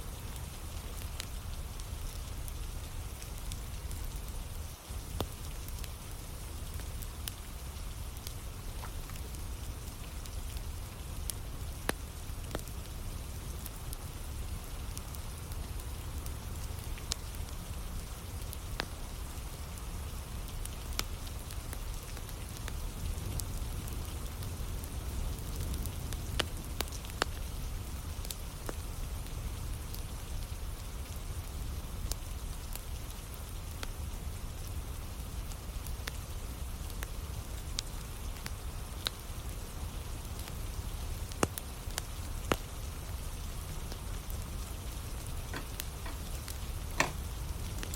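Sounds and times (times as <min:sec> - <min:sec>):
steady rain: 0:00.0 - 0:47.9
wood fire crackling: 0:00.0 - 0:47.9.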